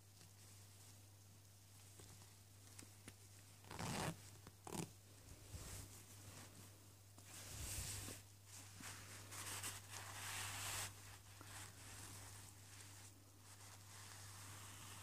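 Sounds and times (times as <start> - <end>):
cloth rustling: 0.0 - 15.0.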